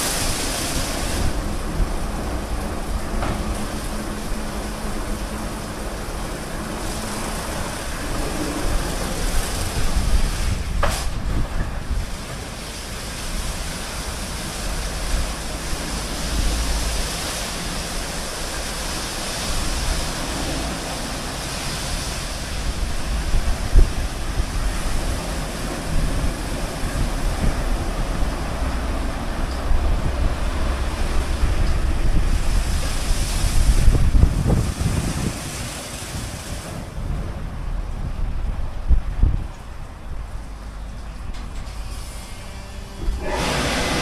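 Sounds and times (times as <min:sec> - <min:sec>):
car wash water and machinery: 0:00.0 - 0:44.0.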